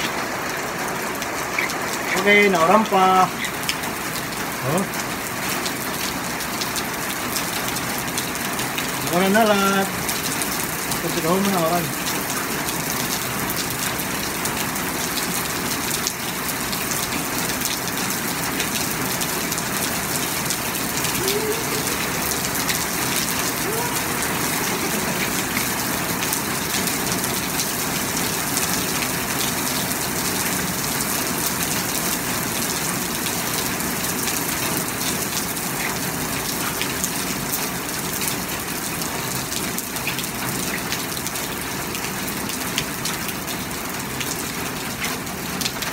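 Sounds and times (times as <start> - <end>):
rain pouring on wet street: 0.0 - 45.9.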